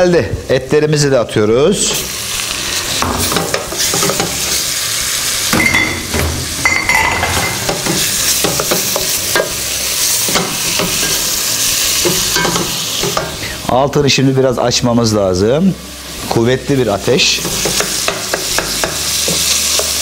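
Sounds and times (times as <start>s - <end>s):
meat sizzling in hot oil: 1.6s - 20.0s.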